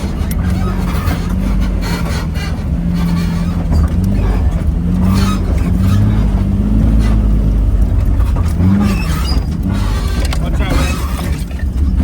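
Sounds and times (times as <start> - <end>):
knocks and rattles: 0.0 - 12.0
vehicle engine under load: 0.0 - 12.0.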